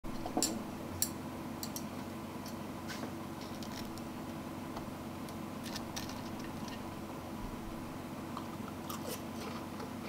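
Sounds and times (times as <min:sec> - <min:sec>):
low hum: 0:00.1 - 0:10.0.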